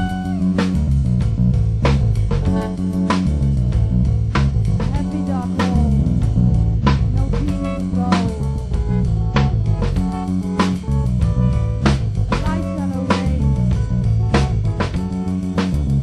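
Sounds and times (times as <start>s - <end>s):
hardcore punk band music: 0.0s - 16.0s.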